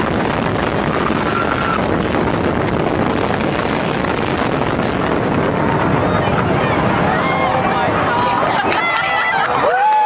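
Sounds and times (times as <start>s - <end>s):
wind on microphone: 0.0s - 9.8s
loud rushing noise: 0.0s - 10.0s.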